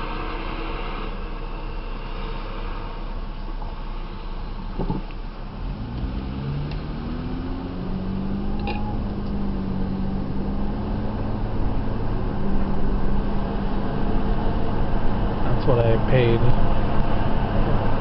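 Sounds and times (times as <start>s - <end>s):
car engine accelerating: 0.0s - 18.0s
road noise inside car: 0.0s - 18.0s.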